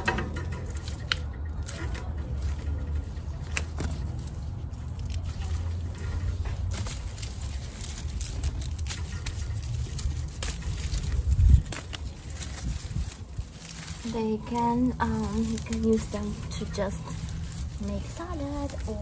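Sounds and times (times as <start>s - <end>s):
bean pods snapping: 0.0s - 19.0s
plants rustling: 0.0s - 19.0s
steady low rumble: 0.0s - 19.0s.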